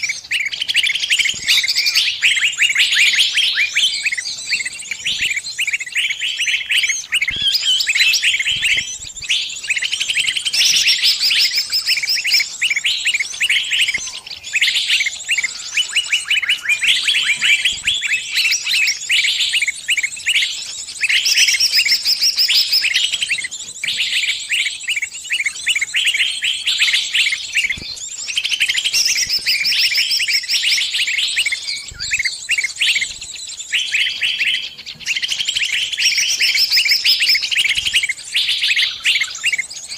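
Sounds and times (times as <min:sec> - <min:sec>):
bird distress chirps: 0:00.0 - 0:39.9.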